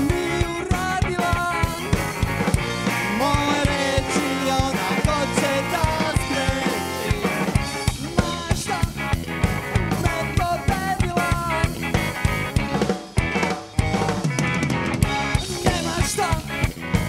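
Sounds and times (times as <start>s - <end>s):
drum kit beat: 0.0s - 17.0s
electric bass: 0.0s - 17.0s.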